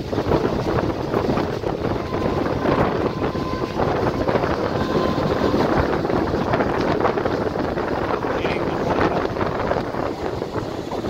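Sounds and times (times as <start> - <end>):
train wheels rumbling on rails: 0.0 - 11.0
wind buffeting microphone: 0.0 - 11.0.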